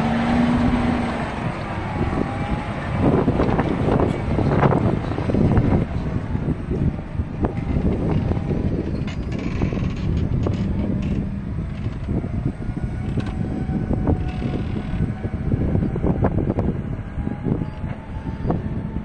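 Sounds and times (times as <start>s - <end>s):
tractor diesel engine rumble: 0.0s - 19.0s.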